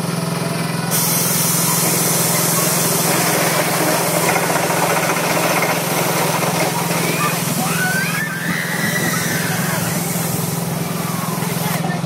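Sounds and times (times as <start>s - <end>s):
carousel ride machinery humming: 0.0s - 12.0s.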